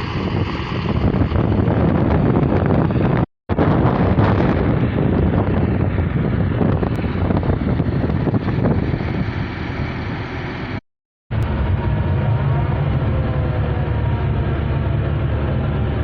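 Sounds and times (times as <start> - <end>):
excavator diesel engine running: 0.0 - 16.0
wind buffeting microphone: 0.0 - 16.0.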